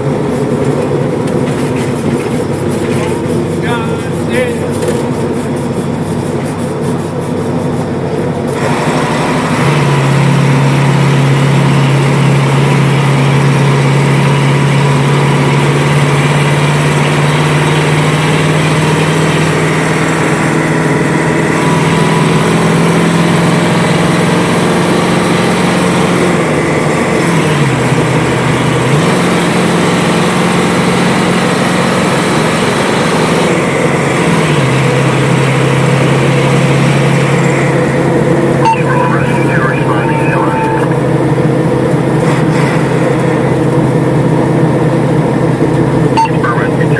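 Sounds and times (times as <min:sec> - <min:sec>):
engine droning: 0:00.0 - 0:46.9
road noise: 0:00.0 - 0:46.9.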